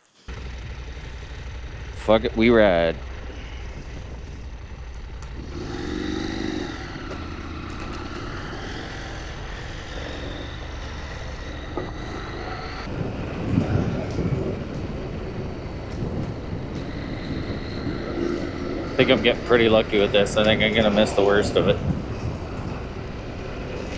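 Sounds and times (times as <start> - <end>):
motorcycle engine running: 0.1 - 23.9
wind noise: 0.4 - 23.9.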